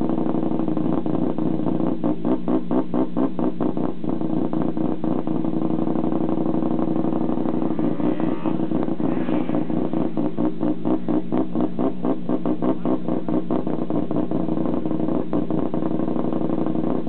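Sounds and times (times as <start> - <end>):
rotary engine idling: 0.0 - 17.0.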